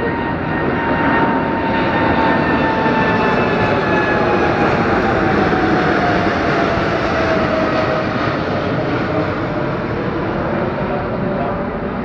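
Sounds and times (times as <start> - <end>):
jet plane passing overhead: 0.0 - 12.0.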